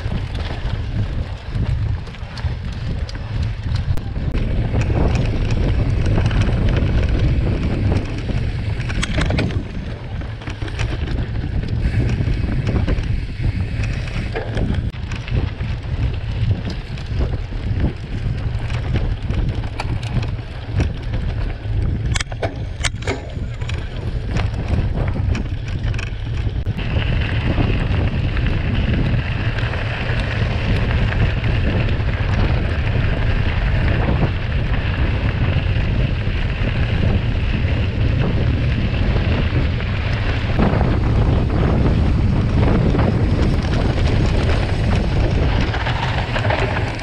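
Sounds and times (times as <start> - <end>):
bike knocks and rattles: 0.0 - 47.0
tyres on loose gravel: 0.0 - 47.0
wind buffeting microphone: 0.0 - 47.0.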